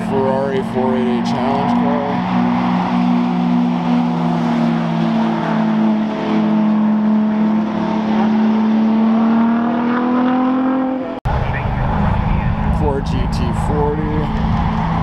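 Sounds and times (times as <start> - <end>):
sports car engines droning: 0.0 - 15.0.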